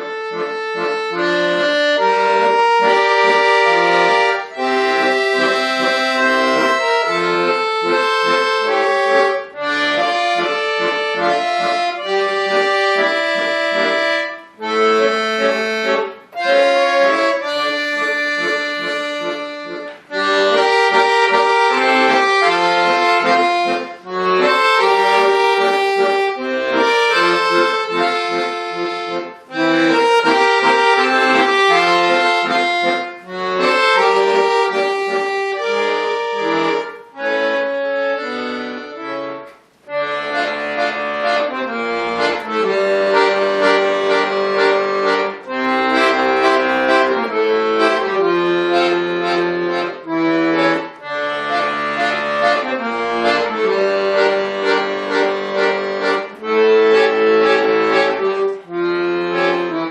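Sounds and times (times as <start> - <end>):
button accordion playing chords: 0.0 - 59.9.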